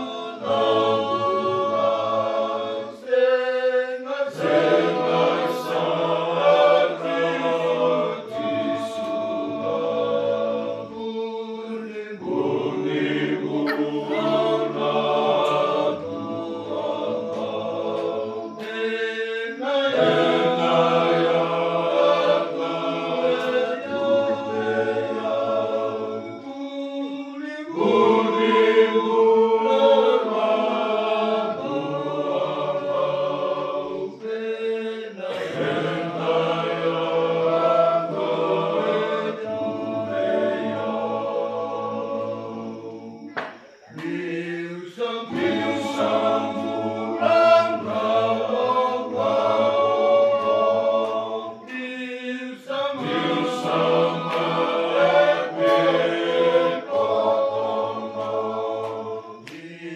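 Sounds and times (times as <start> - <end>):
men singing unaccompanied: 0.0 - 59.9.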